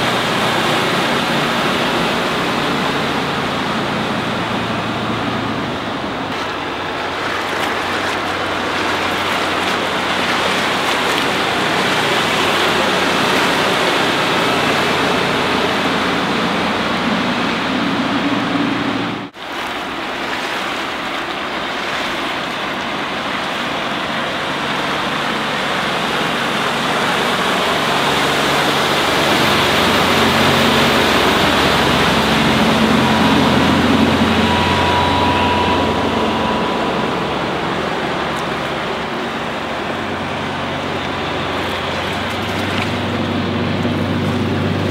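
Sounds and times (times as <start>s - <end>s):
motorboat engine hum: 0.0s - 44.9s
rush of water: 0.0s - 44.9s.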